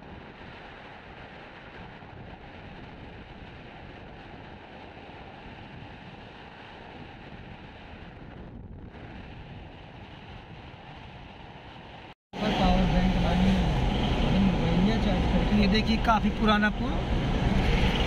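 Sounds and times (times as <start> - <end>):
vehicle wind and road noise: 0.0 - 18.0.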